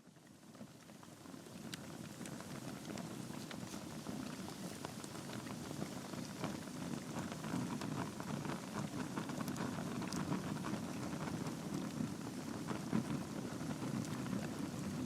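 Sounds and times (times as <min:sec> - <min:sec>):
wood fire crackling: 0:00.5 - 0:15.0.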